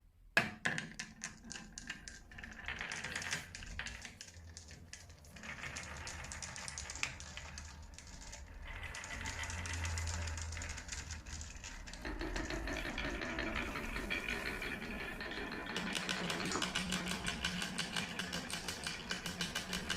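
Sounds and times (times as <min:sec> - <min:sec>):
marbles rolling on track: 0:00.6 - 0:19.9
marbles clicking: 0:01.0 - 0:19.9.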